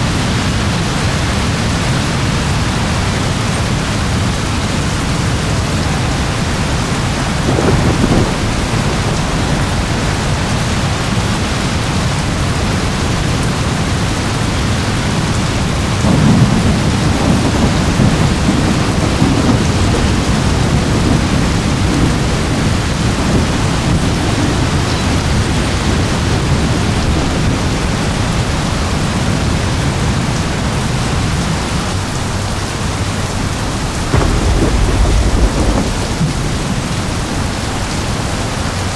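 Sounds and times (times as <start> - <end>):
heavy rain hissing: 0.0 - 38.9
thunder rumbling: 0.0 - 38.9.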